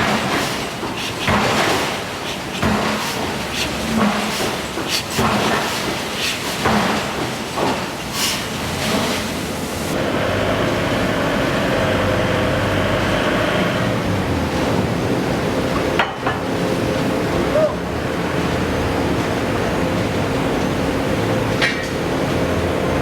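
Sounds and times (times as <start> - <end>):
machinery running: 0.0 - 23.0.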